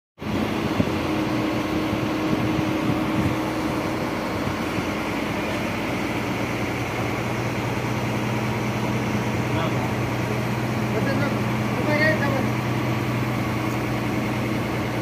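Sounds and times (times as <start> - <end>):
drilling rig engine running: 0.2 - 15.0
higher hum: 0.2 - 15.0.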